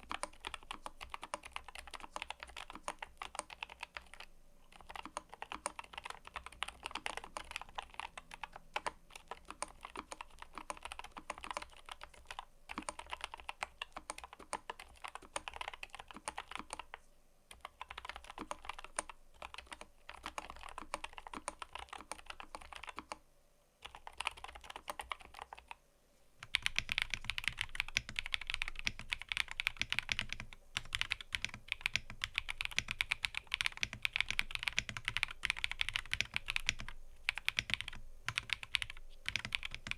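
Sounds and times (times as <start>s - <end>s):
typing on mechanical keyboard: 0.0s - 23.2s, 23.8s - 25.8s, 26.4s - 39.9s.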